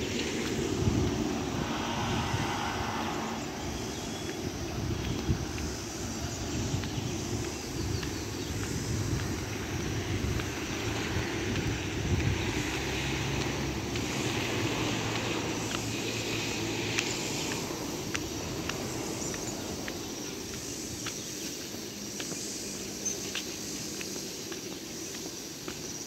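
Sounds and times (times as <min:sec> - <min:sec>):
footsteps on concrete: 0:00.0 - 0:26.0
outdoor background noise: 0:00.0 - 0:26.0.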